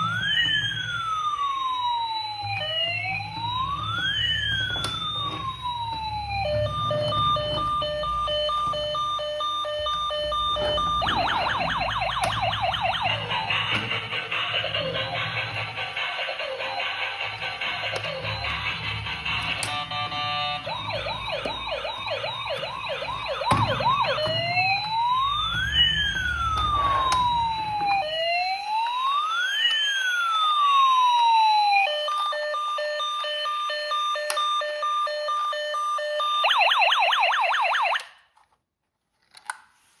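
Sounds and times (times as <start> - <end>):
electronic toy police siren: 0.0 - 38.3.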